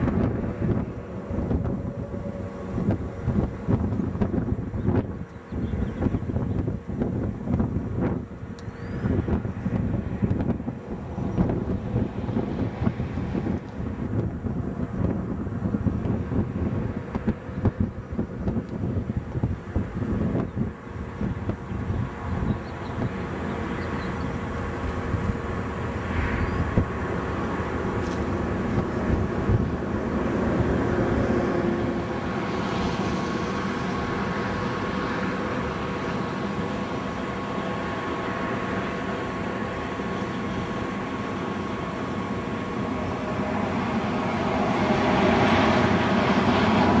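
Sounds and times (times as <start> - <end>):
road rumble: 0.0 - 47.0
trucks driving past: 0.0 - 47.0.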